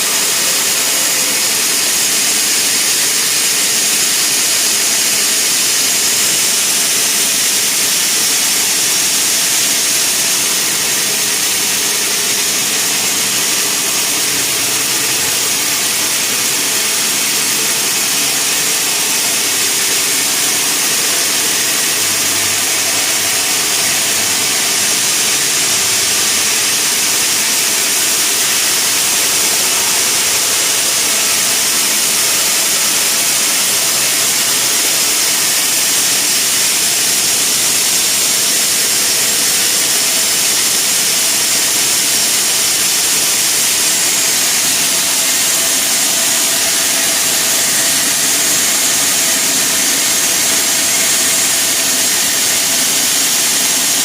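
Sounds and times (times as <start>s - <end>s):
sawmill saw hissing: 0.0s - 54.0s.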